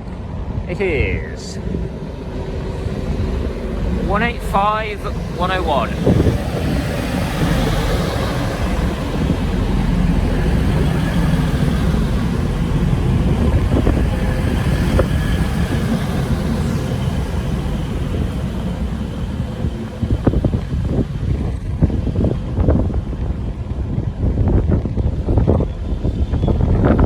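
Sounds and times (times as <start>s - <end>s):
train diesel engines idling: 0.0s - 24.2s.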